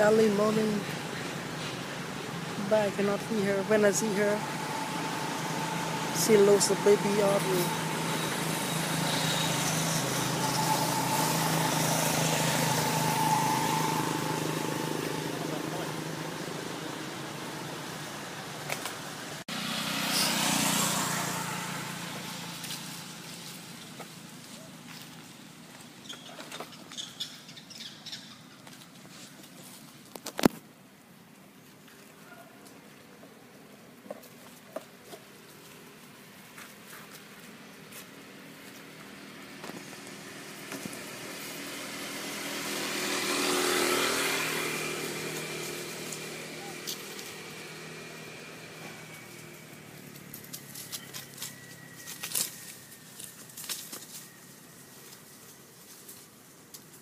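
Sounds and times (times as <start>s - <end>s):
vehicle engine running: 0.0s - 25.9s, 35.1s - 57.0s.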